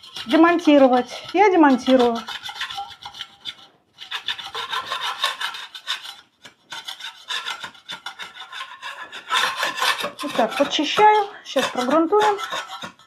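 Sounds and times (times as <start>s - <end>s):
metal scraper rasping on a wall: 0.0s - 13.0s.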